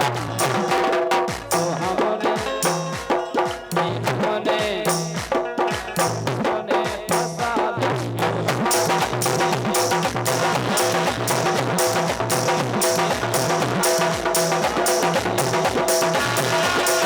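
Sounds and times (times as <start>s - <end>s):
fast drum strikes: 0.0s - 17.0s
rattle-like percussion: 0.0s - 17.0s.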